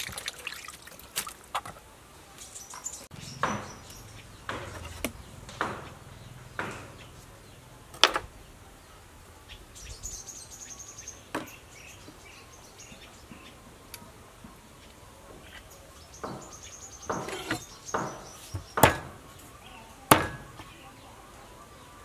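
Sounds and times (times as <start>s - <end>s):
birds or insects chirping: 0.0s - 22.0s.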